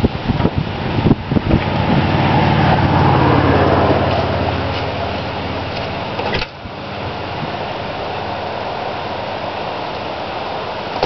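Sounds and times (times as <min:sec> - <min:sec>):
passing car road noise: 0:00.0 - 0:11.0
traffic noise: 0:00.0 - 0:11.0
wind: 0:00.0 - 0:11.0.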